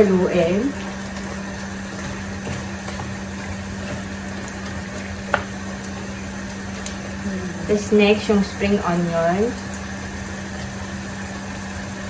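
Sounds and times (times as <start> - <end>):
food sizzling in a frying pan: 0.0 - 12.0
steady low hum: 0.0 - 12.0.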